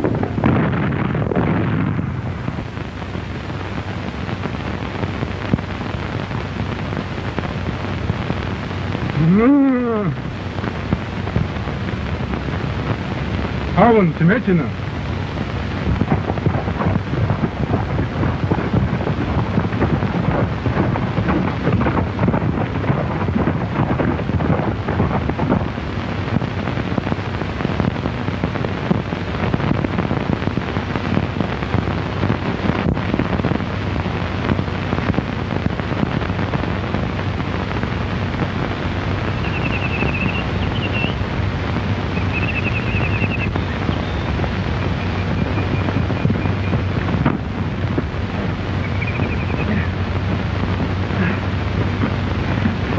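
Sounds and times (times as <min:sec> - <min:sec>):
rushing crackling film noise: 0:00.0 - 0:52.9.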